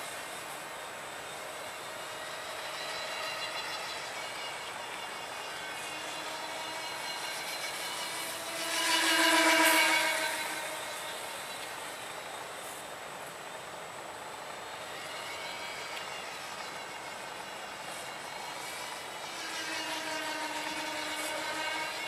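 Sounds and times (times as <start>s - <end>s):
model plane motor whine: 0.0s - 22.0s.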